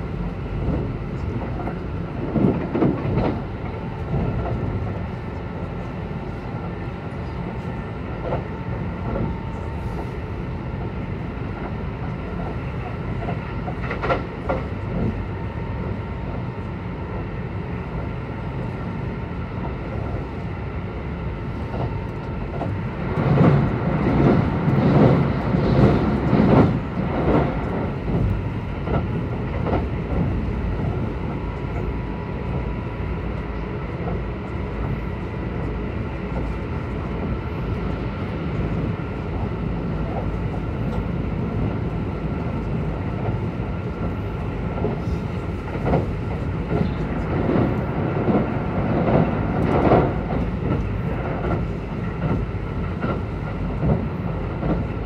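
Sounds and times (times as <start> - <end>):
train wheels and motors rumbling: 0.0 - 55.0.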